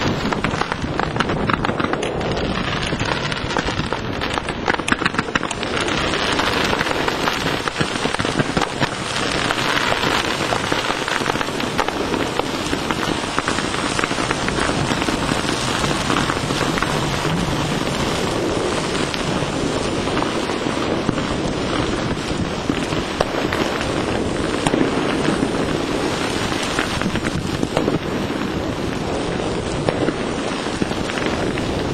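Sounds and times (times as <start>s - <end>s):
fireworks crackling: 0.0s - 31.9s.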